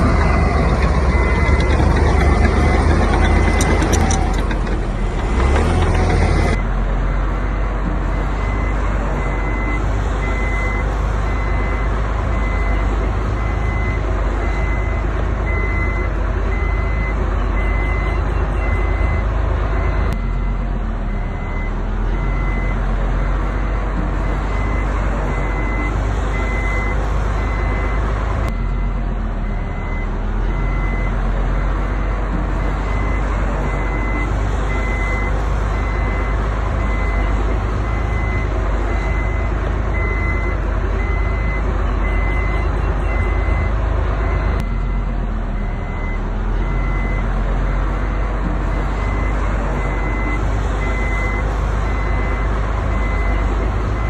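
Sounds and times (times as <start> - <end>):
reversing alarm beeping: 0.0 - 6.6, 7.5 - 22.8, 23.5 - 47.3, 48.0 - 54.0
diesel machinery running: 0.0 - 54.0.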